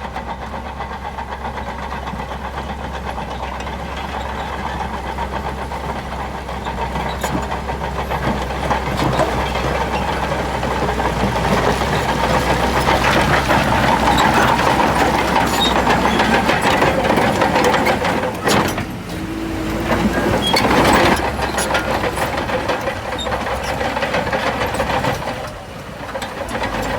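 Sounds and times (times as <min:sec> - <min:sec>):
bulldozer diesel engine: 0:00.0 - 0:26.9.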